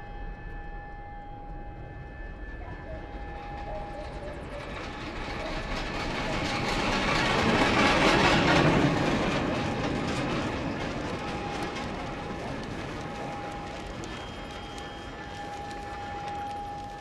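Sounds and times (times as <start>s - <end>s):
trolley wheels rumbling on rails: 0.0s - 17.0s.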